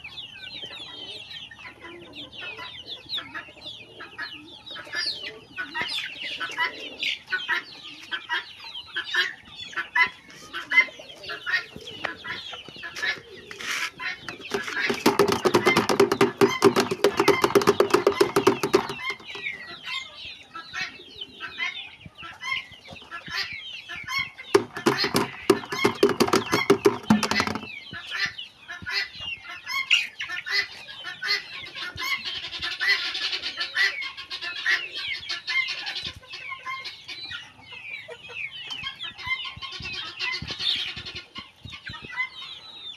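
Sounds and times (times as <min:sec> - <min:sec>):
chickens clucking and calling: 0:00.0 - 0:42.9.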